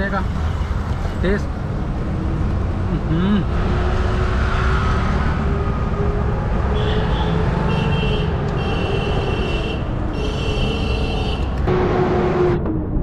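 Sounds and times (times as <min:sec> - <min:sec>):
road and wind rumble: 0:00.0 - 0:13.0.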